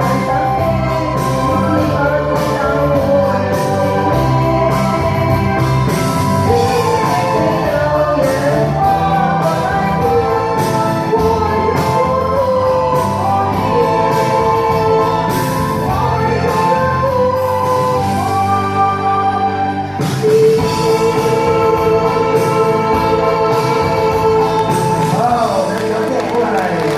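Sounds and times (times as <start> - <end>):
instrumental backing: 0.0 - 26.9
person singing: 0.0 - 26.9.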